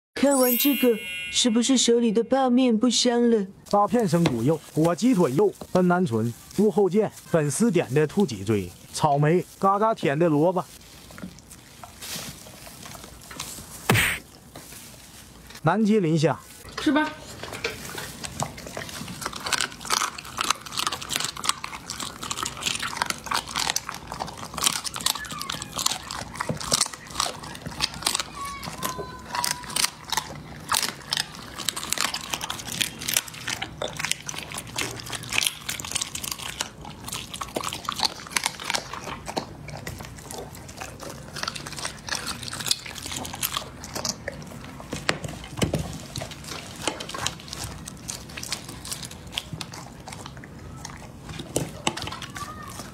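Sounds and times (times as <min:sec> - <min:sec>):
dog chewing and crunching bone: 0:03.7 - 0:15.6, 0:16.5 - 0:52.9.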